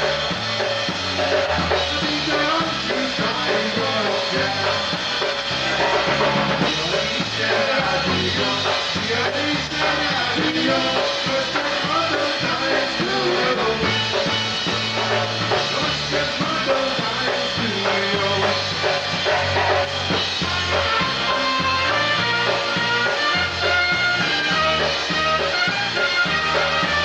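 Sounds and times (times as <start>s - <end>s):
polka band playing: 0.0s - 27.0s.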